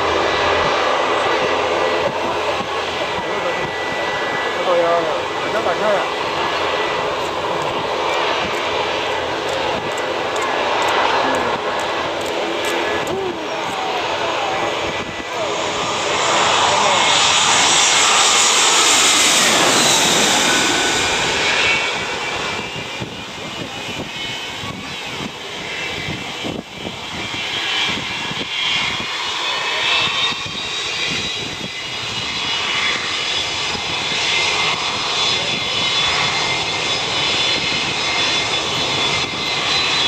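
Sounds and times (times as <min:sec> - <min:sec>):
jet airliner passing overhead: 0:00.0 - 0:40.0.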